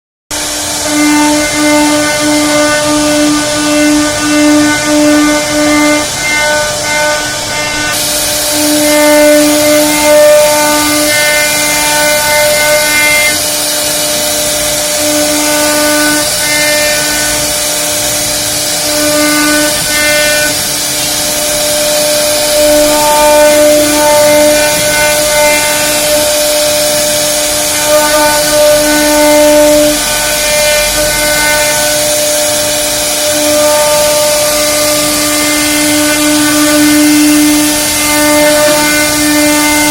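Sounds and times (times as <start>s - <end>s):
router spindle whine: 0.3s - 39.9s
bit cutting wood hiss: 0.4s - 39.9s.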